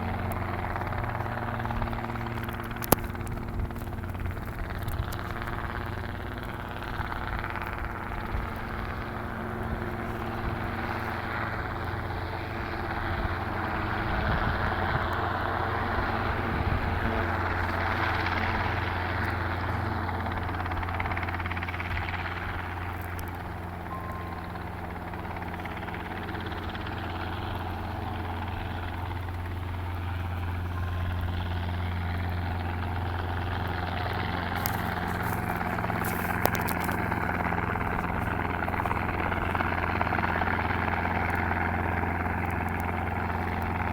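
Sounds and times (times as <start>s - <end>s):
helicopter rotor drone: 0.0s - 43.9s.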